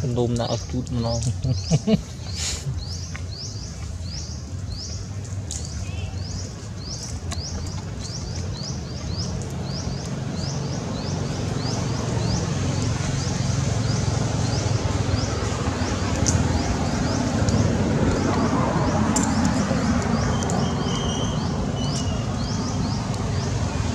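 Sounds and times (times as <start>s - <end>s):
small bird chirping: 0.3s - 23.9s.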